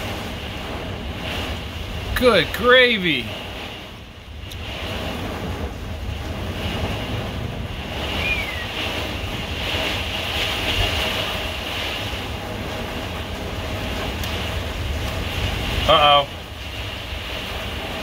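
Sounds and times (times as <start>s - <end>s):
gusting wind: 0.0s - 18.0s
heavy rain beating on camper: 0.0s - 18.0s
low thunder rumble: 0.0s - 18.0s.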